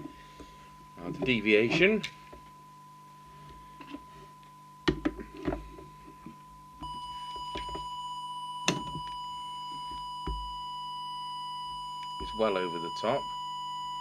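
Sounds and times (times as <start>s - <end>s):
steady test tone: 0.0s - 14.0s.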